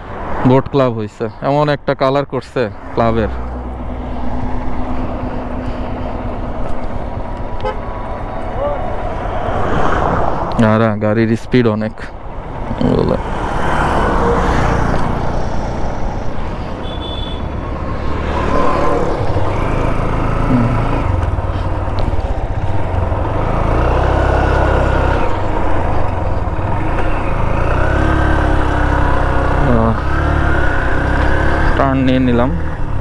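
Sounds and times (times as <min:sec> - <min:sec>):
motorcycle engine humming: 0:02.8 - 0:10.5, 0:11.3 - 0:33.0.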